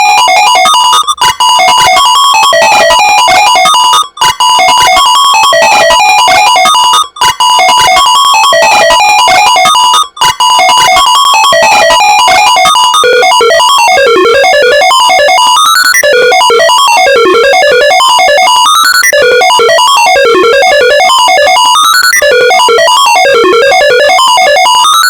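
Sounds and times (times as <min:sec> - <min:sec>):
alarm tone played as melody: 0:00.0 - 0:25.0.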